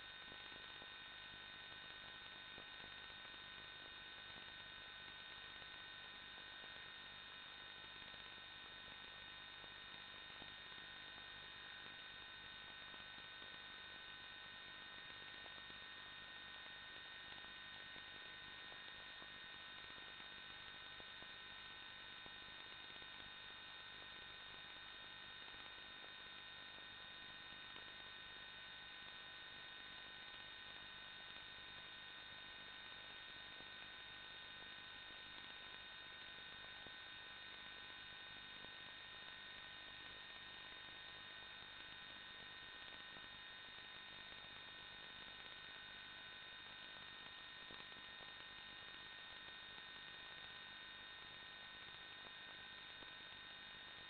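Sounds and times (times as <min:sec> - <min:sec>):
electronic whine: 0:00.0 - 0:54.0.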